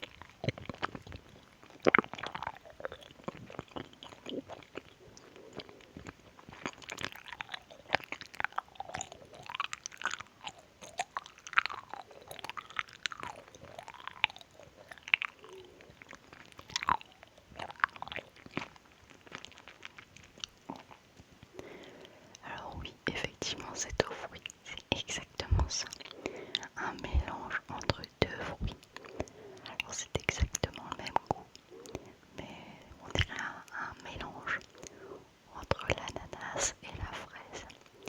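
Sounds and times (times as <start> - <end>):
wet chewing mouth sounds: 0.0 - 38.0.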